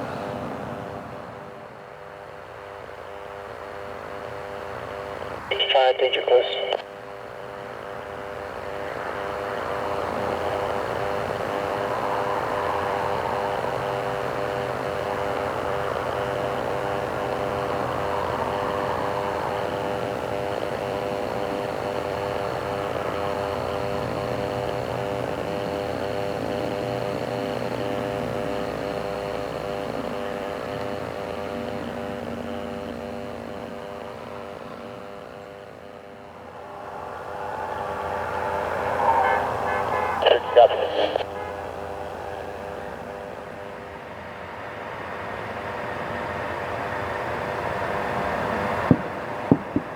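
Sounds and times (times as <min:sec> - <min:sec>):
aircraft engine drone: 0:00.0 - 0:49.9.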